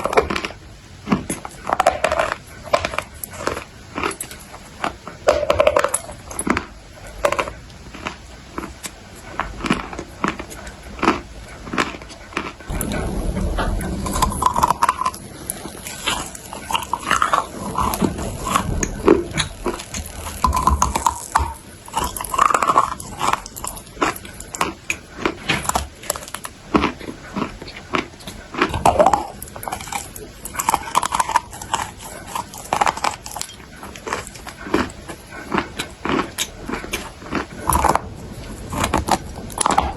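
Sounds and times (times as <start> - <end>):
wet mouth sounds: 0.0 - 39.9.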